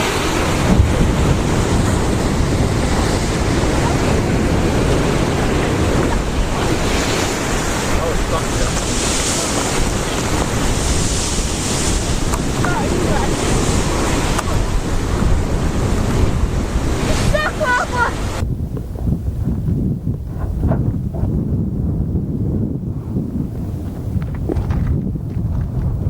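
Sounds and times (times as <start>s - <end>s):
heavy surf breaking: 0.0s - 26.0s
wind buffeting microphone: 0.0s - 26.0s.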